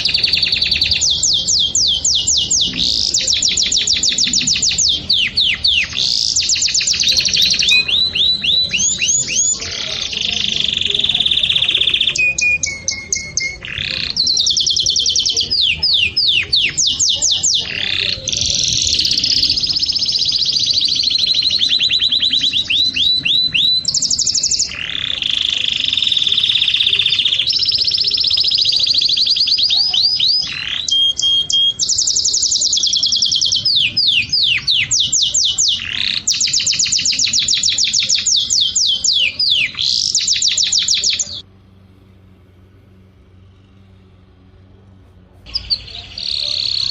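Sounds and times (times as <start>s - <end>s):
songbird singing trills and whistles: 0.0s - 41.4s, 45.5s - 46.9s.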